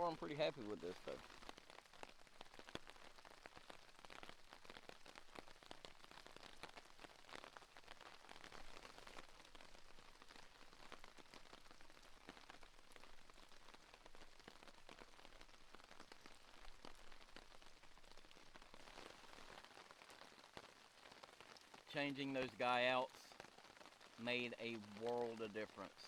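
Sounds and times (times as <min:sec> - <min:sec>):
rain on a tarp: 0:00.0 - 0:26.0.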